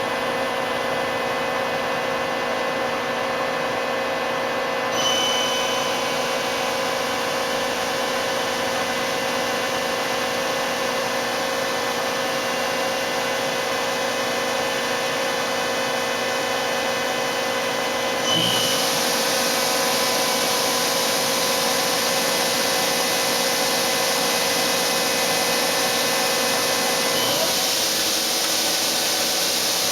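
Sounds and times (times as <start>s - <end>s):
lathe mechanical hum and whine: 0.0s - 29.9s.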